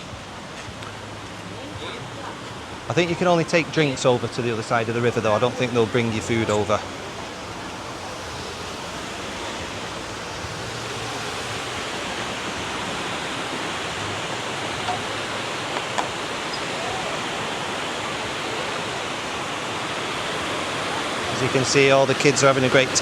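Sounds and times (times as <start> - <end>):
rushing river water: 0.0 - 23.0.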